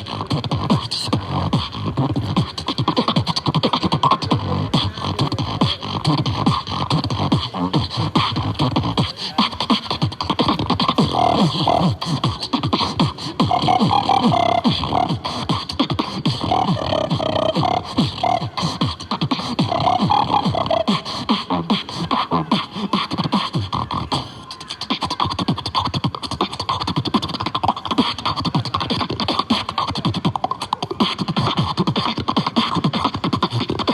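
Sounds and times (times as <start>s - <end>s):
beatboxing: 0.0s - 33.9s.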